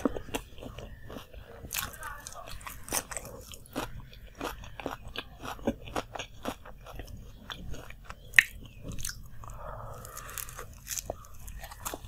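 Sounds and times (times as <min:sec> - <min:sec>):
chewing crunchy food: 0:00.0 - 0:12.0.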